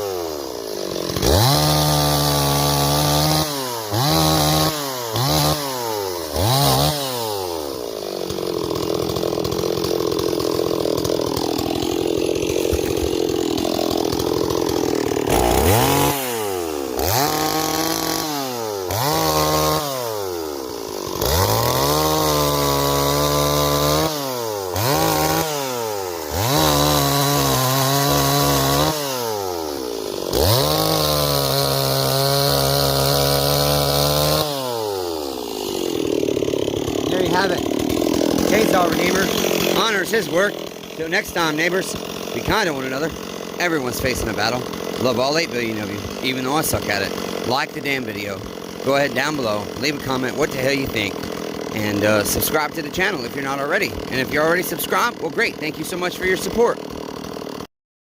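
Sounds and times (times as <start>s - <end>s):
chainsaw revving: 0.0s - 57.7s.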